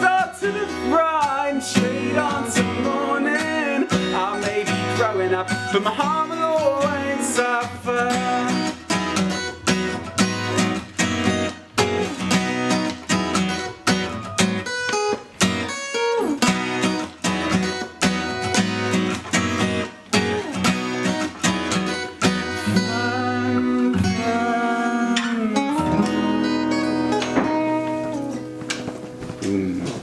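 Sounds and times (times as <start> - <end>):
acoustic guitar strummed: 0.0 - 30.0.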